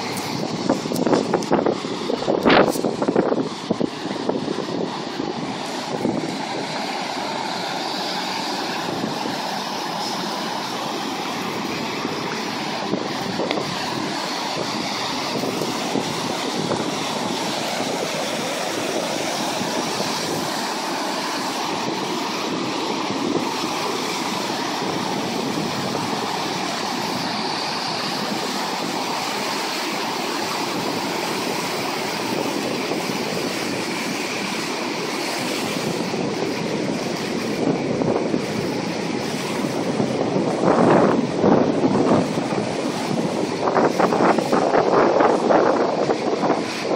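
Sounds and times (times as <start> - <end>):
rushing floodwater: 0.0 - 46.9.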